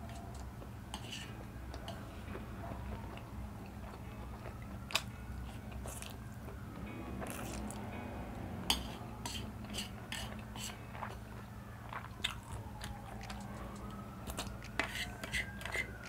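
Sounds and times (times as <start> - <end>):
noodles slurped and chewed: 0.0 - 6.6, 7.2 - 7.9, 8.7 - 16.0.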